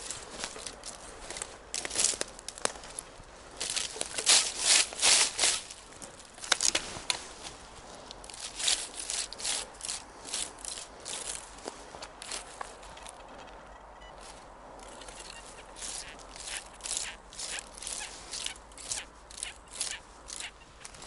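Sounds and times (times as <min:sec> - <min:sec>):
leaves and soil rustling: 0:00.0 - 0:13.4, 0:14.1 - 0:21.0.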